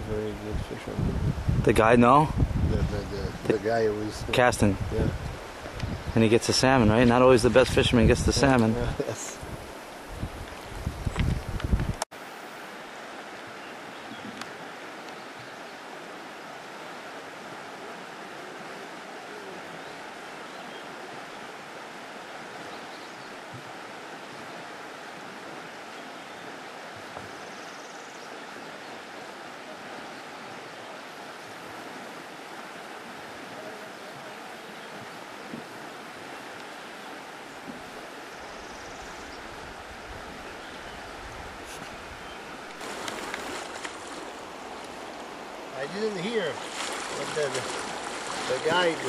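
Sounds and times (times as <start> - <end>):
river water rushing: 3.3 - 11.0, 12.2 - 49.0.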